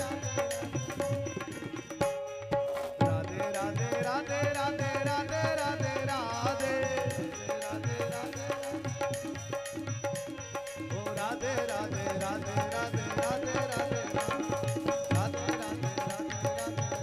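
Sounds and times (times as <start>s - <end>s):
hand drum steady beat: 0.0s - 17.0s
harmonium holding a steady note: 0.0s - 17.0s
person singing with ornaments: 0.0s - 17.0s.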